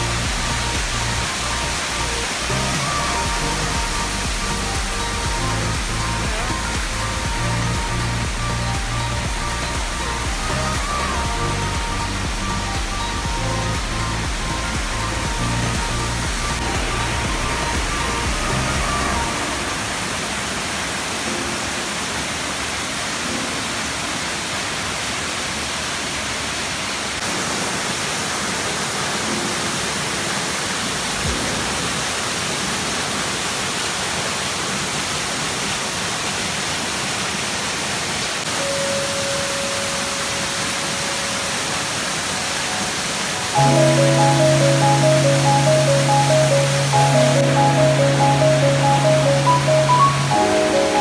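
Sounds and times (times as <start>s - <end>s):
waterfall pouring into pool: 0.0s - 51.0s.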